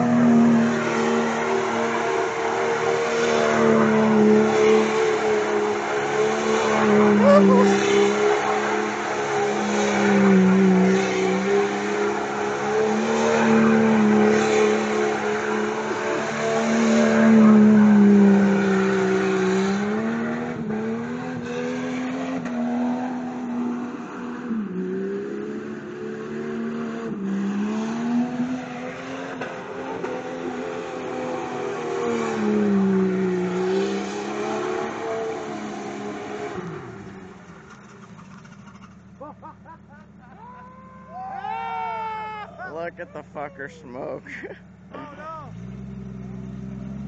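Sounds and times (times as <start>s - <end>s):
car engine at high revs: 0.0s - 40.4s, 42.7s - 47.0s.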